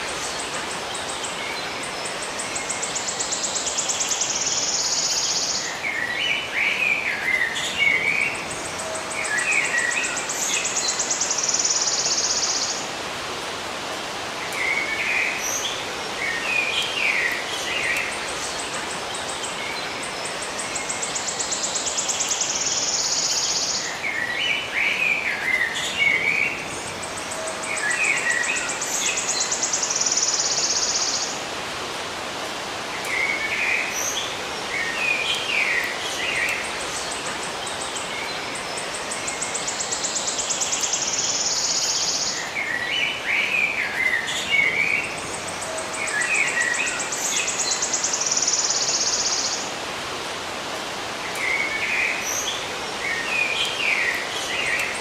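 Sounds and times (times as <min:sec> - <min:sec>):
outdoor ambience hiss: 0:00.0 - 0:55.0
songbirds chirping: 0:00.0 - 0:55.0.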